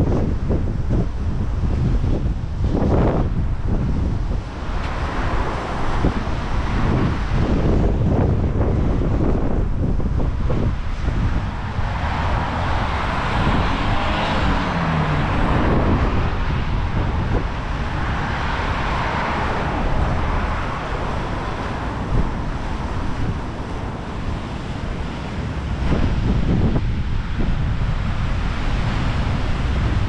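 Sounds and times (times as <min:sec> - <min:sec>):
wind buffeting microphone: 0:00.0 - 0:30.0
vehicle passing: 0:00.9 - 0:30.0.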